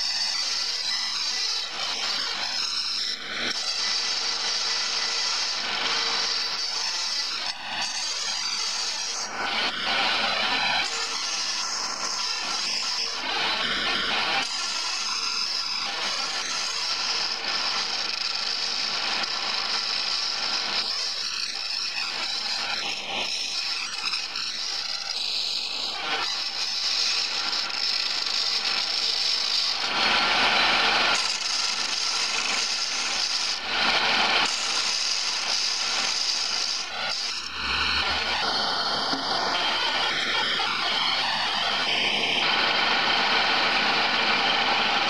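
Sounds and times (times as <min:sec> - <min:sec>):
wood lathe chisel scraping wood: 0:00.0 - 0:45.0.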